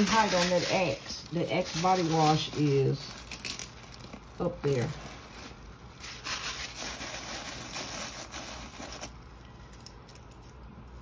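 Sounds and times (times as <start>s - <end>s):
tissue paper crinkling: 0.0s - 9.3s.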